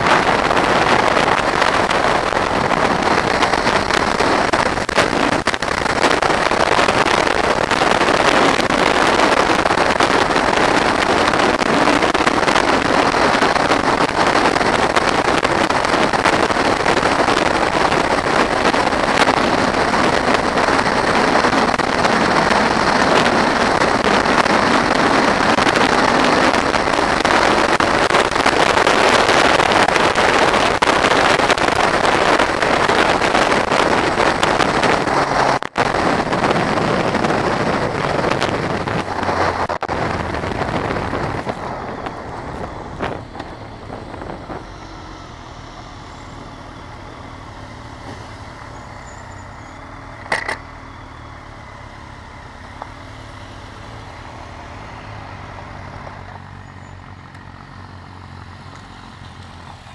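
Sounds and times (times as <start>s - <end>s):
wind rushing on microphone: 0.0s - 56.7s
motorcycle engine running: 0.0s - 59.9s.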